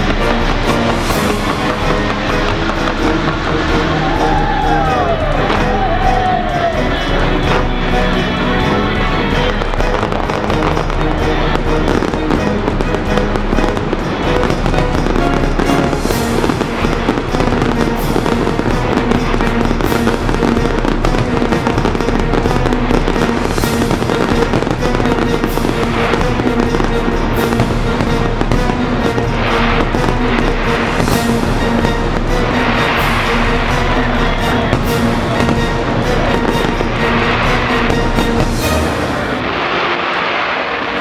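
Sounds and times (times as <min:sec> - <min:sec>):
fireworks bursting and crackling: 0:00.0 - 0:41.0
loud music: 0:00.0 - 0:41.0.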